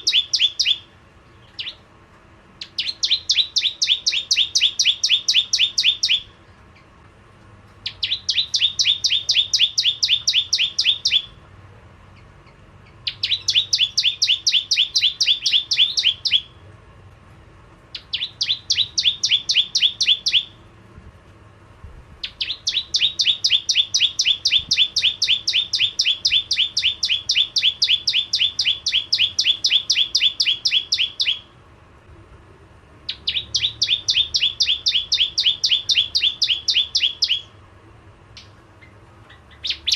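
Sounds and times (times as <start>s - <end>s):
bird singing sharp repeated notes: 0.0s - 1.9s, 2.6s - 6.9s, 7.8s - 11.4s, 12.1s - 16.6s, 17.9s - 20.6s, 22.2s - 31.6s, 33.0s - 37.6s, 38.3s - 39.9s.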